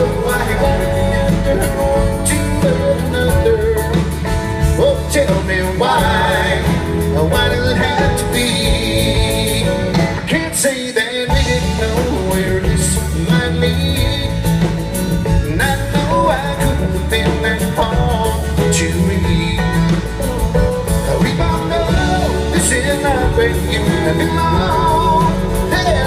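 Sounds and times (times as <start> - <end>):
drums: 0.0 - 26.0
electric guitars: 0.0 - 26.0
person singing lead vocal: 0.0 - 26.0.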